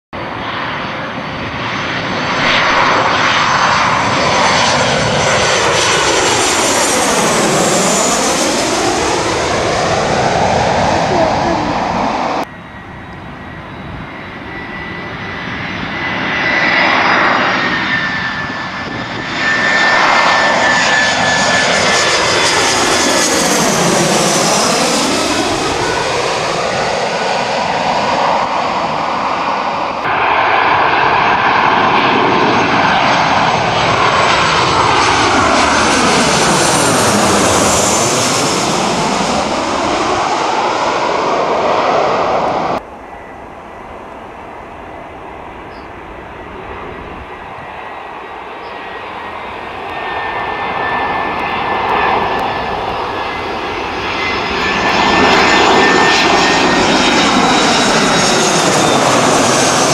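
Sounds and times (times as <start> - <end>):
jet engine high whine: 0.1 - 59.9
jet airliners passing overhead: 0.2 - 59.9.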